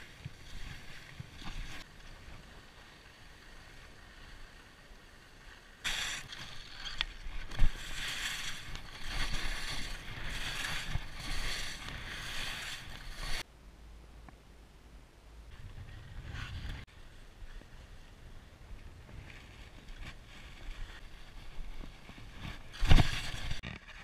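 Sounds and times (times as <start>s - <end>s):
skis scraping over snow: 0.0s - 13.5s, 15.8s - 24.0s.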